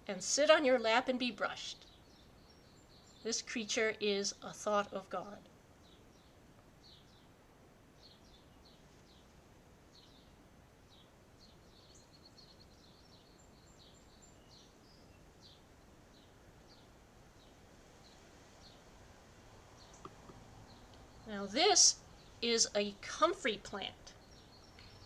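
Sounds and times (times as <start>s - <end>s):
small birds chirping: 0.0s - 25.0s
soft background hiss: 0.0s - 25.0s.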